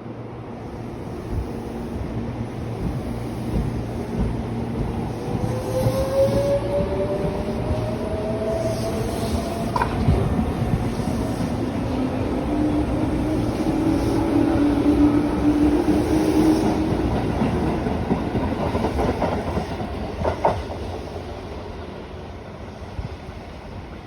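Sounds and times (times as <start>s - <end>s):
electric train hum: 0.0s - 24.0s.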